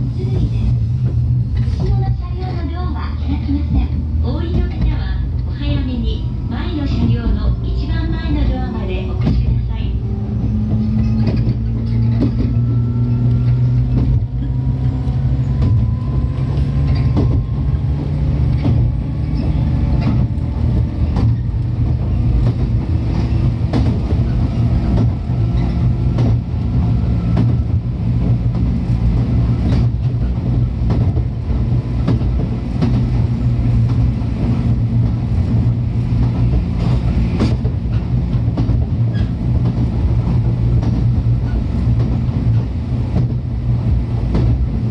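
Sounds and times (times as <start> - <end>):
electric train rumble and motor whine: 0.0 - 44.9.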